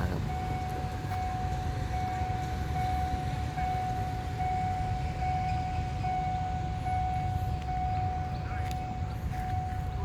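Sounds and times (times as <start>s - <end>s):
level crossing warning alarm: 0.0s - 10.0s.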